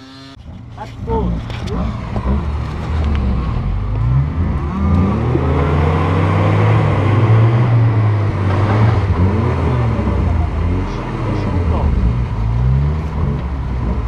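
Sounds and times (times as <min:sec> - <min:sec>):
off-road vehicle engines revving: 0:00.0 - 0:14.0.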